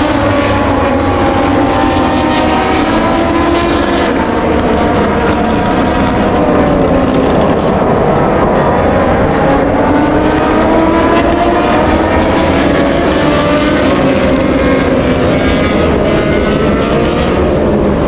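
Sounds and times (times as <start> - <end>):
racing motorcycle engines: 0.0 - 18.0.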